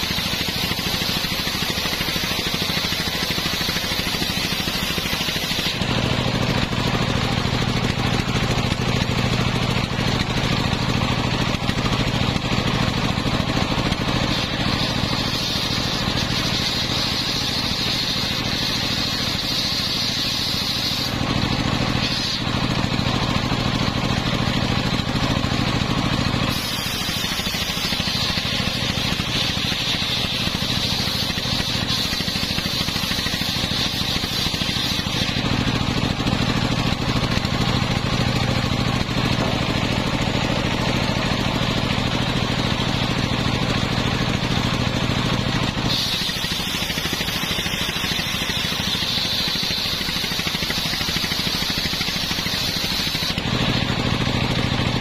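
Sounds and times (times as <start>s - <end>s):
circular saw blade whining: 0.0s - 55.0s
drive engine running: 0.0s - 55.0s.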